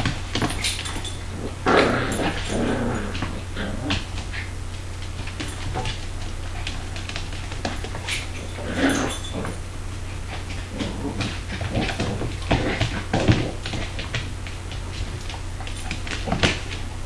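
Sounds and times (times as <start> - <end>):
dogs play growling and yipping: 0.0 - 17.0.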